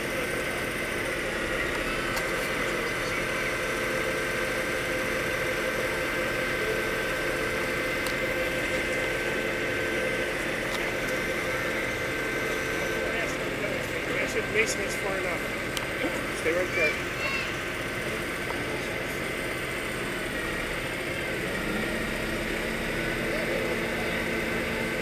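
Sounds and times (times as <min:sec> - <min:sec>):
high-pitched hydraulic whine: 0:00.0 - 0:25.0
truck engine running: 0:00.0 - 0:25.0.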